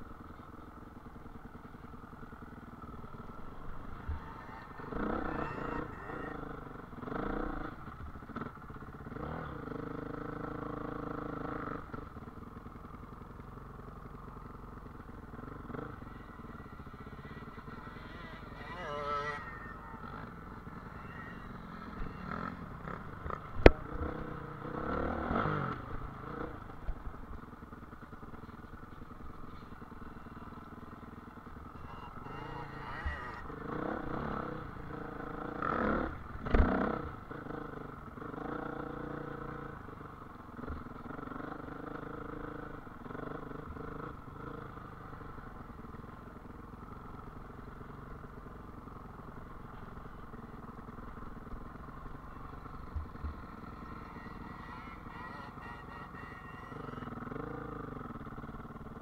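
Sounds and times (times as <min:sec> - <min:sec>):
off-road motorcycle engine revving: 0:00.0 - 0:59.0.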